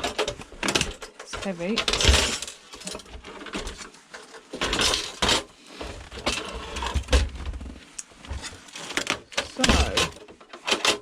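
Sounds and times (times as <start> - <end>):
metal and plastic parts rattling: 0.0 - 11.0.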